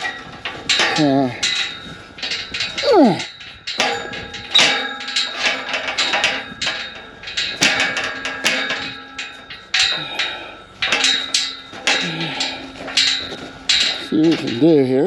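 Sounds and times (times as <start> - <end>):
hammer clanking on metal gate: 0.0 - 15.0.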